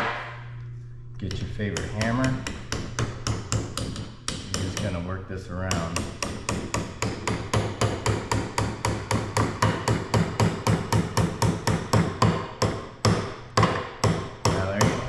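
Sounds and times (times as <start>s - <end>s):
hammer tapping steel: 1.2s - 5.0s, 5.6s - 15.0s.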